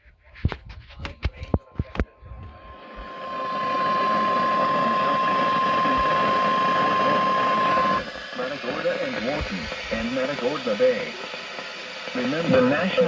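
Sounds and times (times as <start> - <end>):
radio static: 0.0 - 13.0.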